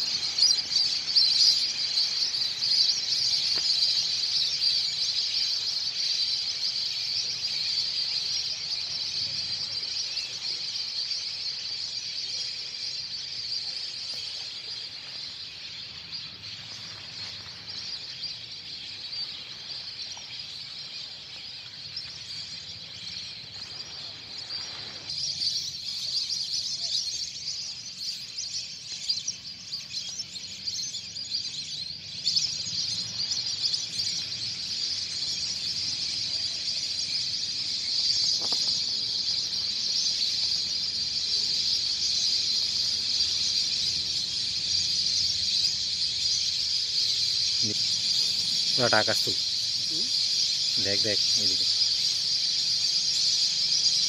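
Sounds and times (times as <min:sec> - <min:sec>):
flock of birds chirping: 0:00.0 - 0:54.0.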